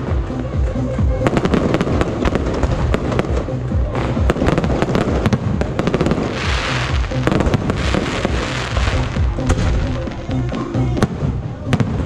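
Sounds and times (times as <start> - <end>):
fireworks crackling: 0.0 - 12.0
fireworks bangs: 1.2 - 12.0.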